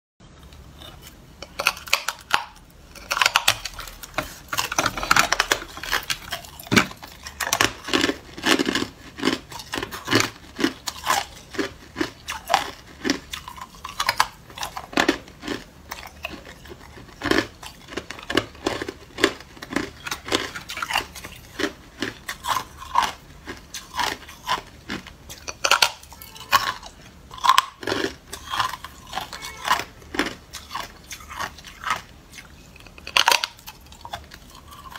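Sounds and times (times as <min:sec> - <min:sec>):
ice being chewed: 0:00.4 - 0:34.9.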